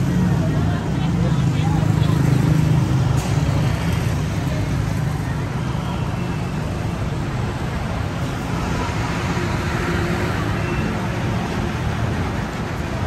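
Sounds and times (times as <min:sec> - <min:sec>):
hubbub of crowd: 0:00.0 - 0:13.0
road traffic: 0:00.0 - 0:13.0.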